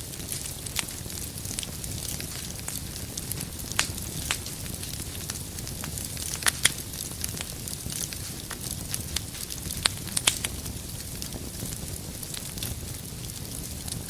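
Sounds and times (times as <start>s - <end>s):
low rumble of flame: 0.0s - 14.0s
wood fire crackling: 0.0s - 14.0s.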